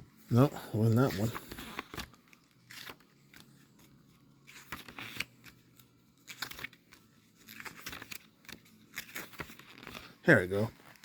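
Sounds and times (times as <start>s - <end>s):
paper rustling: 0.3s - 11.0s.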